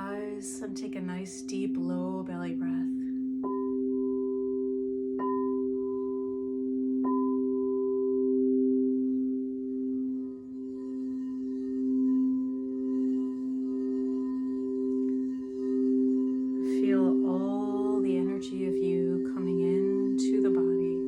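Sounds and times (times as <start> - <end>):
singing bowls ringing: 0.0 - 21.0.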